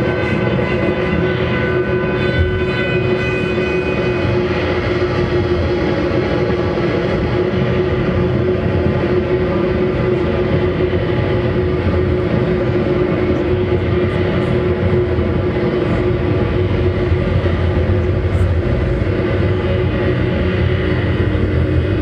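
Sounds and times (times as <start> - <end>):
distorted noise drone music: 0.0 - 22.0.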